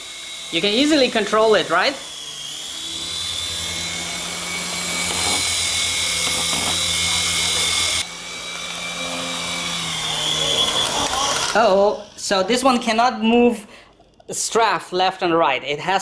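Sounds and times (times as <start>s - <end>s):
toy helicopter motor whine: 0.0s - 14.6s.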